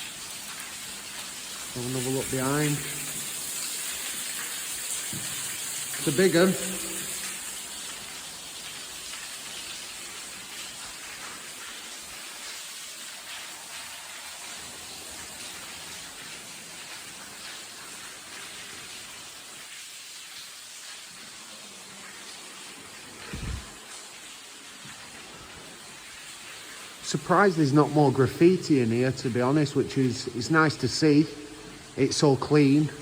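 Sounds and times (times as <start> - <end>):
water dripping and trickling: 0.0 - 33.0.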